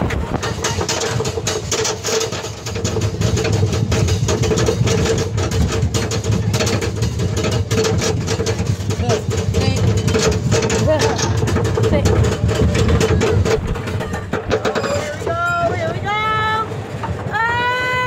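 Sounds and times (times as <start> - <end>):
lift hill chain clicking and clanking: 0.2 - 18.0.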